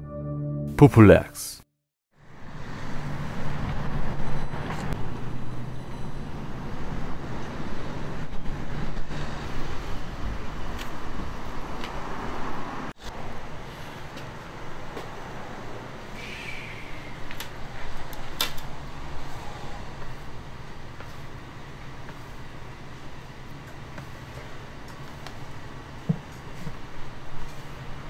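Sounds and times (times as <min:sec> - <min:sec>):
street traffic noise: 0:02.2 - 0:28.0.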